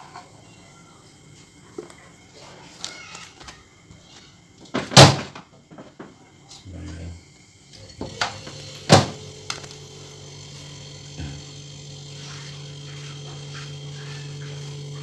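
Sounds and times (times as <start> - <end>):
compressor humming: 0.0 - 15.0.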